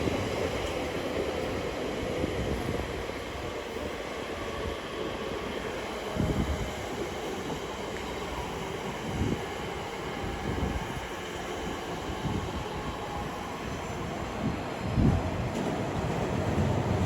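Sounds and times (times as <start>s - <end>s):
electric train noise: 0.0s - 17.0s.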